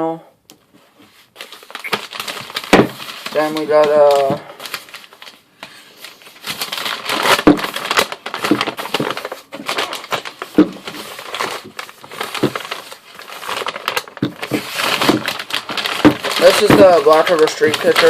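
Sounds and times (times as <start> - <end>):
packaging crinkling and crackling: 1.2 - 18.0.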